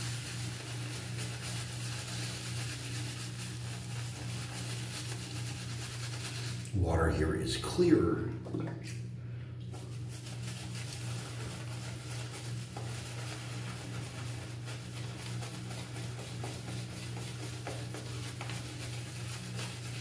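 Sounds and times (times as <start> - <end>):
shaving brush swishing lather: 0.0 - 8.0, 9.7 - 20.0
steady low hum: 0.2 - 20.0.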